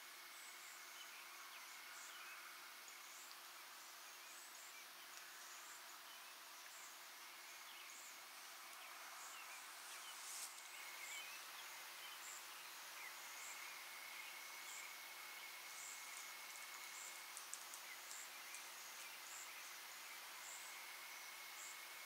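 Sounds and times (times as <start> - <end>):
insect chirping: 0.0 - 22.0
high insect trill: 0.2 - 22.0.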